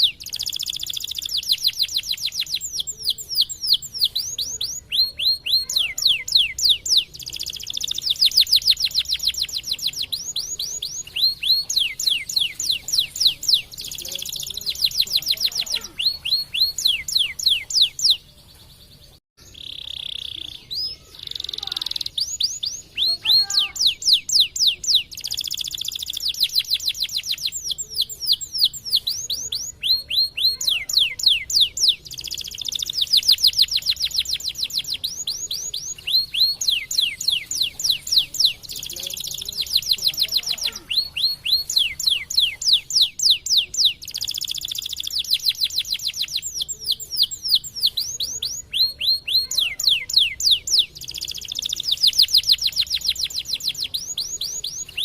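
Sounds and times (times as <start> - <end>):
canary singing trilled phrases: 0.0 - 55.0.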